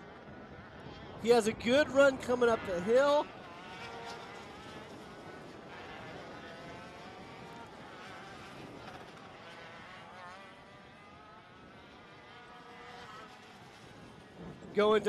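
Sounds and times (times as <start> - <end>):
kart engines buzzing: 0.0 - 15.0.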